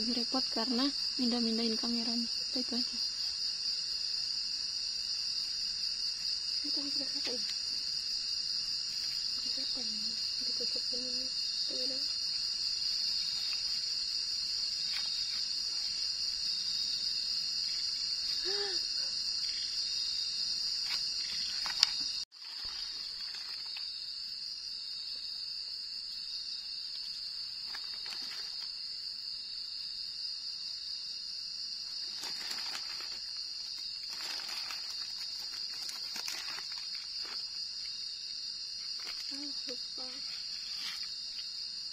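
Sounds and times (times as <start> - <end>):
night insects chirring: 0.0 - 41.9.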